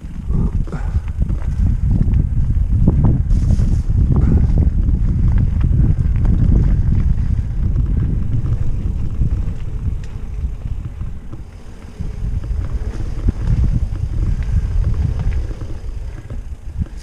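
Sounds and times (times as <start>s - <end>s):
bike clicks and rattles: 0.0s - 17.0s
tyres rumbling on dirt: 0.0s - 17.0s
wind rushing over microphone: 0.0s - 17.0s.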